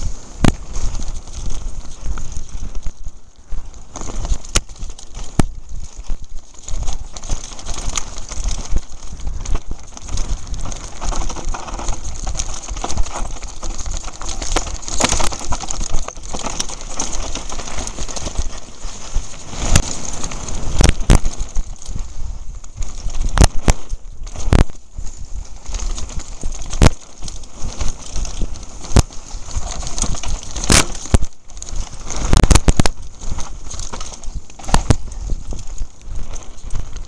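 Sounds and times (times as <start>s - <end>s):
bike rattling: 0.0s - 37.0s
wind buffeting microphone: 0.0s - 37.0s.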